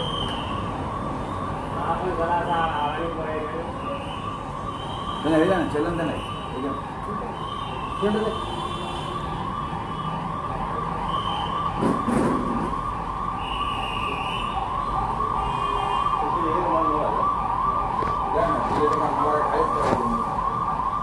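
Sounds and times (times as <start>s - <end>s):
siren yelping: 0.0s - 21.0s.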